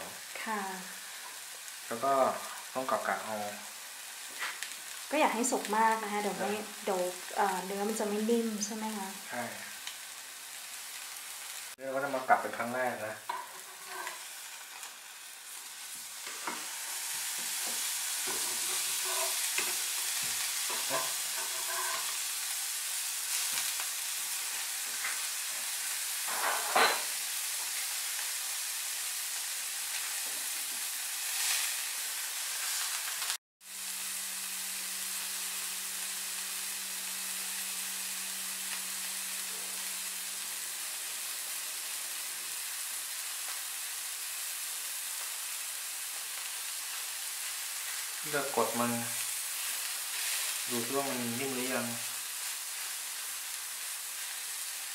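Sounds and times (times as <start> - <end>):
fish sizzling in a frying pan: 0.0 - 54.9.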